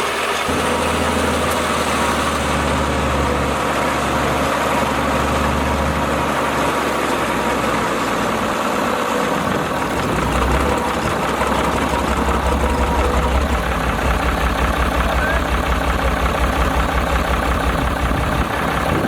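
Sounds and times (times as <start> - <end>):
diesel engine throbbing: 0.0 - 19.0.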